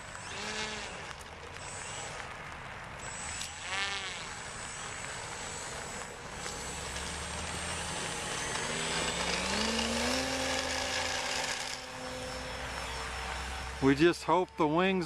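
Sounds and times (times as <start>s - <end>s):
model airplane motor buzzing: 0.0s - 2.3s, 3.0s - 14.6s.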